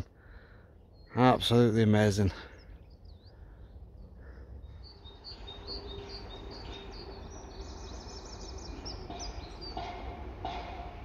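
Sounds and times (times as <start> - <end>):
songbird chirping and trilling: 0.0 - 11.0.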